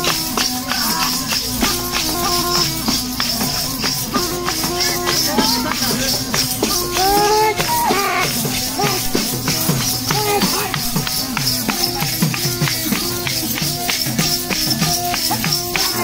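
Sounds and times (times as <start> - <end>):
drum beating quick rhythm: 0.0 - 16.0
jingling rattle percussion: 0.0 - 16.0
sliding melody line: 0.0 - 16.0
steady held drone: 0.0 - 16.0.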